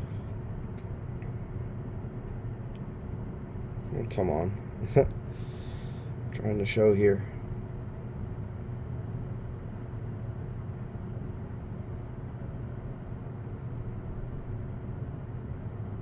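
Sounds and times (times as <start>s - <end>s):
faint constant tone: 0.0s - 16.0s
room noise hum and hiss: 0.0s - 16.0s.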